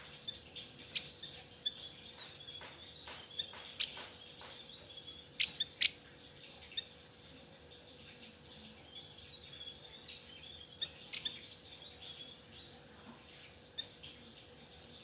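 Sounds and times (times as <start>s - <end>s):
songbird chirping: 0.0s - 14.8s.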